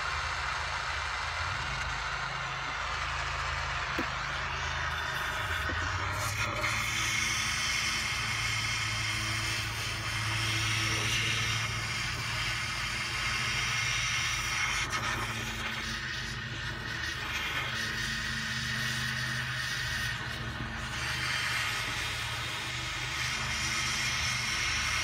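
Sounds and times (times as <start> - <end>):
propane torch hissing: 2.7 - 25.0.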